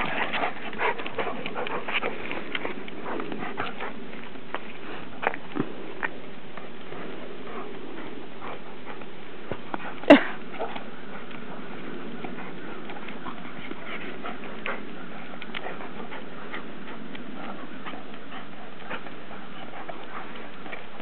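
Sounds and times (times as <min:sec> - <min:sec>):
dogs breathing: 0:00.0 - 0:21.0
dogs scuffling: 0:00.0 - 0:21.0.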